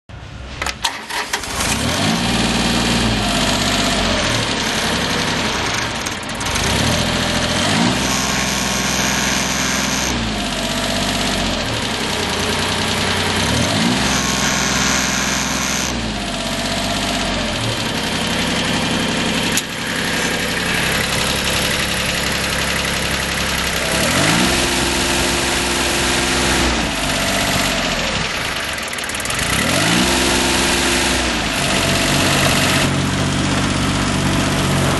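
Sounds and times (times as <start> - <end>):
tractor diesel engine revving: 0.4 - 34.9.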